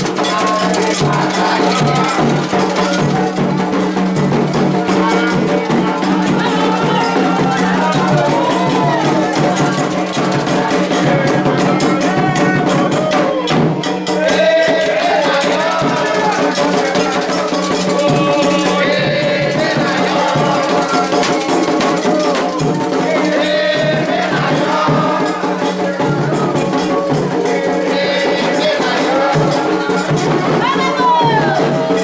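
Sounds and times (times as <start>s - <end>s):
shaken rattles and percussion: 0.0s - 32.0s
voices chanting: 0.0s - 32.0s.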